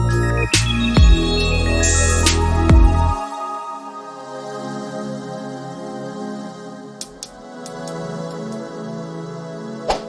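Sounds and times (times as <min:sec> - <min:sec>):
soft new-age synth music: 0:00.0 - 0:10.0.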